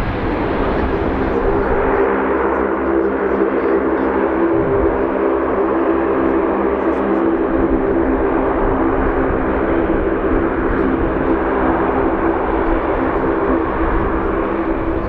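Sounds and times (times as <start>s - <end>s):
turboprop aircraft engines droning: 0.0s - 15.0s.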